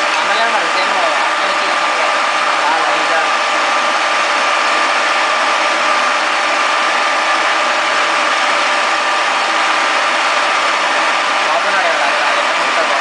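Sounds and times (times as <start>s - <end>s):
milling machine high whine: 0.0s - 13.0s.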